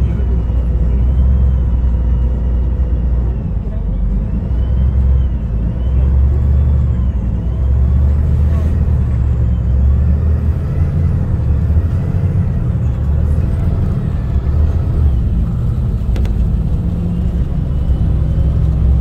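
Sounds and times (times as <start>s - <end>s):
road rumble: 0.0s - 19.0s
vehicle engine: 0.0s - 19.0s.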